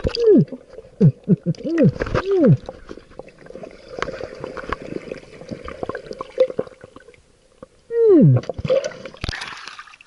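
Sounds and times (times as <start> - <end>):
water gurgling and bubbling: 0.0 - 7.2, 7.9 - 9.5.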